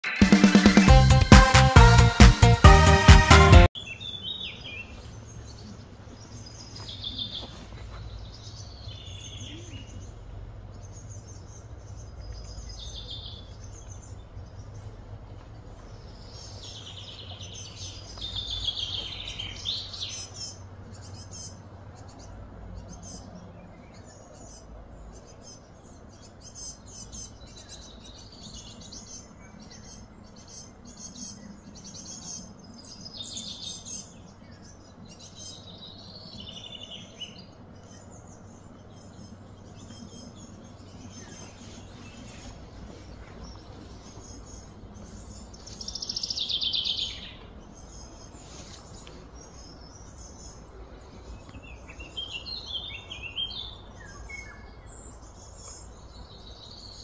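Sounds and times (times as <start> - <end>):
birds chirping and twittering: 0.0 - 57.0
low background hum: 3.9 - 57.0.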